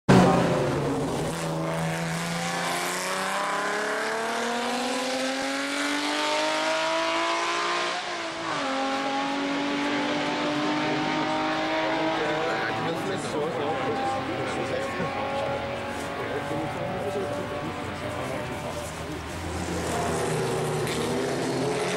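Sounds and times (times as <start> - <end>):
racing car engine accelerating: 0.1 - 21.9.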